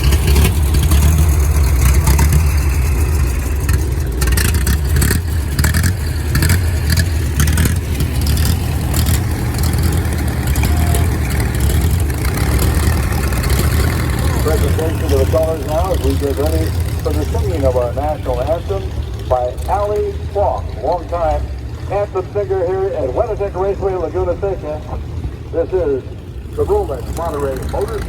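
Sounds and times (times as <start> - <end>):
race car engines idling: 0.0 - 28.0.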